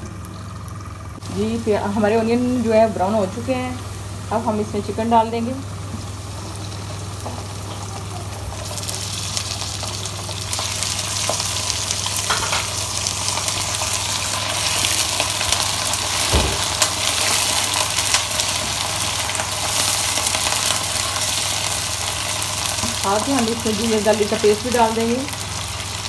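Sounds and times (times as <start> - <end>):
chicken sizzling in hot oil: 0.0 - 26.0
steady low hum: 0.0 - 26.0.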